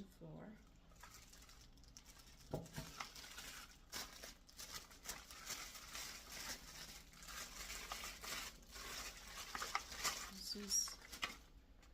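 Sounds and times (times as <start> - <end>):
plastic parts rustling and clicking: 0.9 - 11.9.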